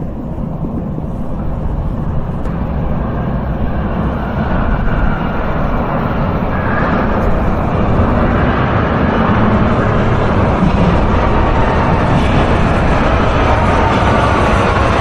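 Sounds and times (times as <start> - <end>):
metro train rumble: 0.0 - 15.0
train rushing sound: 0.0 - 15.0.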